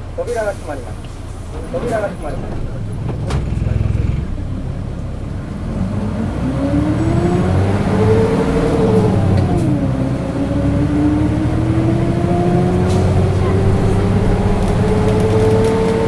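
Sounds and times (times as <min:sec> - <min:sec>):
bus diesel engine pulling away: 0:00.0 - 0:16.0.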